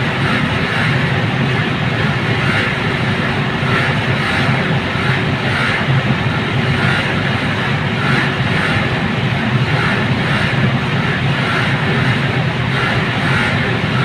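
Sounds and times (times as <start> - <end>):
low hum: 0.0 - 14.0
ventilation fan whoosh: 0.0 - 14.0.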